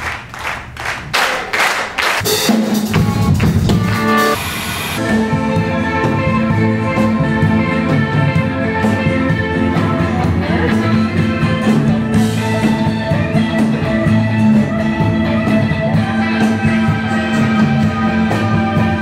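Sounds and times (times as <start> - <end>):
drums: 1.8 - 19.0
electric guitar playing: 2.2 - 19.0.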